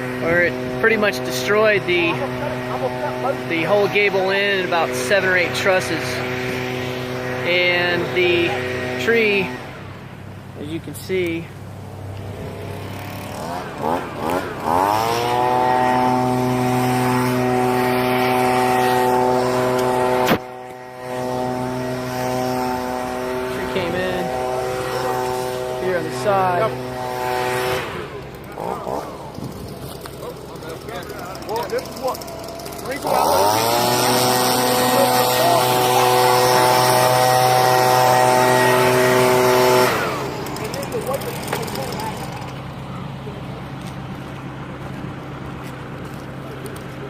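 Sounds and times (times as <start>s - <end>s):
engine droning steadily: 0.0s - 47.0s.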